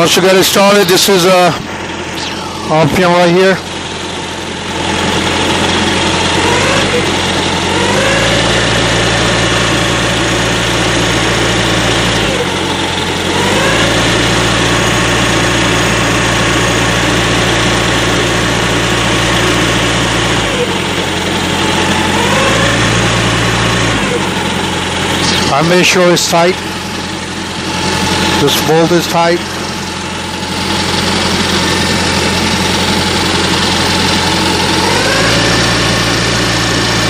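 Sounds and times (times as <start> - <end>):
small diesel engine running: 0.0 - 37.0.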